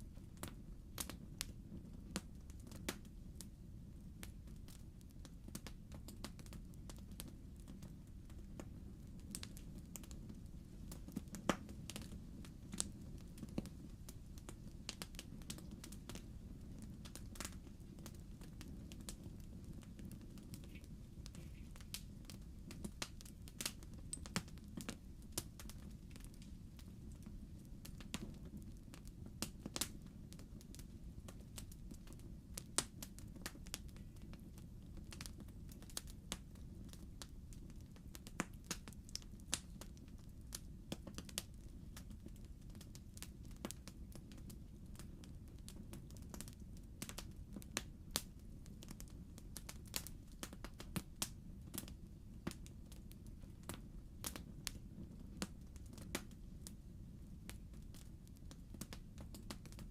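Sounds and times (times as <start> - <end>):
logs crackling in fireplace: 0.0 - 59.9.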